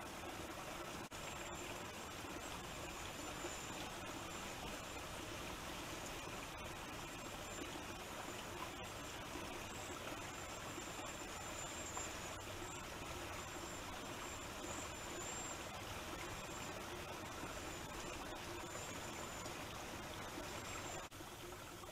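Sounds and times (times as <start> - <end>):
faint high-pitched whine: 0.0 - 21.9.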